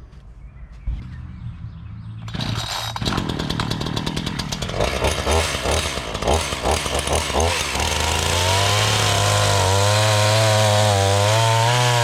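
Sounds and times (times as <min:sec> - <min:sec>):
chainsaw running loudly: 0:02.3 - 0:12.0.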